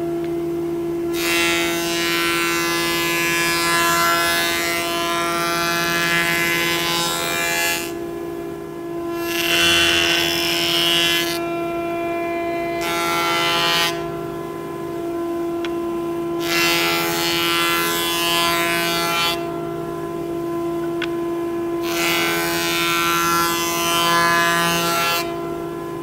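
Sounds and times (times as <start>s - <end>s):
jointer planer whining: 0.0s - 26.0s.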